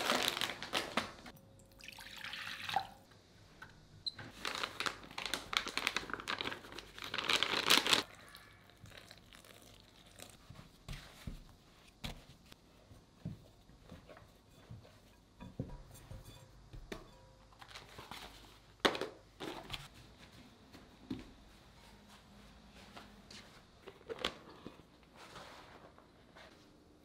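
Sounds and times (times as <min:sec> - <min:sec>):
crinkling and rustling: 0:00.0 - 0:01.3, 0:04.2 - 0:08.1, 0:08.8 - 0:26.7.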